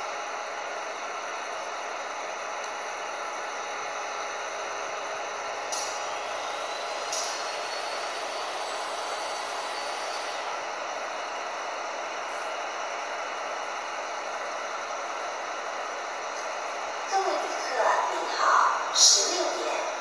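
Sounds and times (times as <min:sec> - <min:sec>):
train rushing rail noise: 0:00.0 - 0:20.0.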